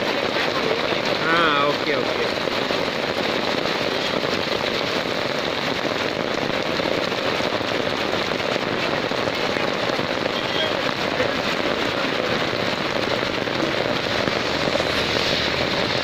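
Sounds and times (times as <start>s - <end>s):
heavy rain on hard surface: 0.0s - 16.0s.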